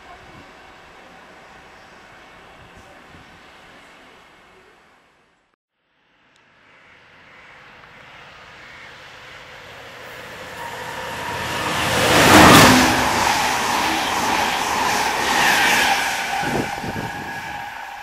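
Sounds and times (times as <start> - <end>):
train passing at speed: 0.0 - 5.2, 6.1 - 18.0.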